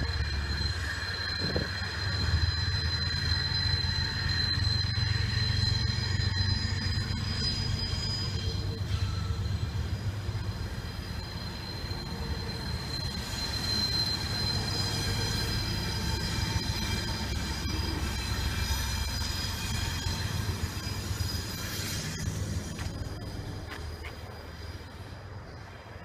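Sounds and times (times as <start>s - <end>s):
high wheel squeal: 0.0s - 25.7s
train rumbling past: 0.0s - 26.0s.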